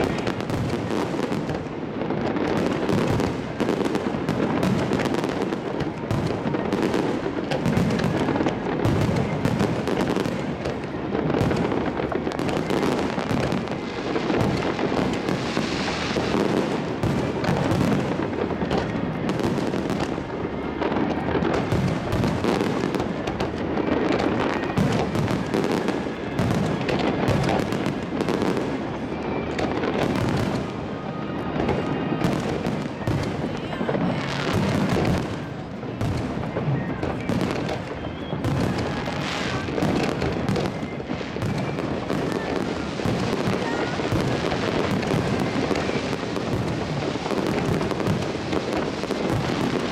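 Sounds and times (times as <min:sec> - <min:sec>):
fireworks bursting and crackling: 0:00.0 - 0:49.9.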